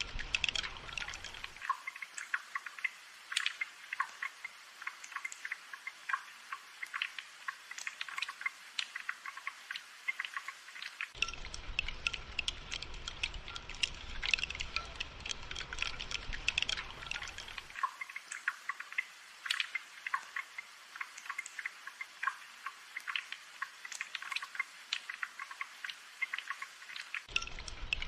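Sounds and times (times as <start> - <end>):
rain dripping and pattering: 0.0 - 28.0.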